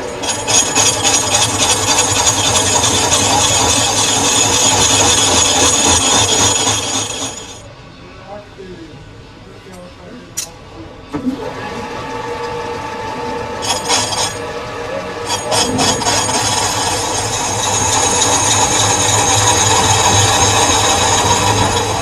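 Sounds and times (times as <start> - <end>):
lathe cutting metal: 0.0 - 7.7, 11.4 - 22.0.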